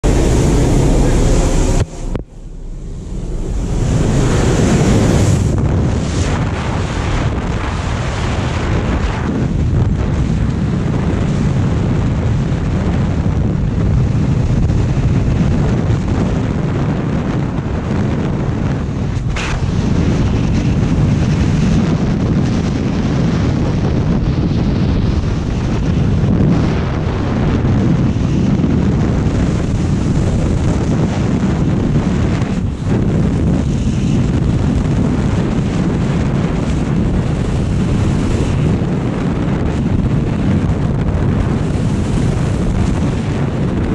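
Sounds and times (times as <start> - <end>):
freefall wind buffeting microphone: 0.0 - 43.9.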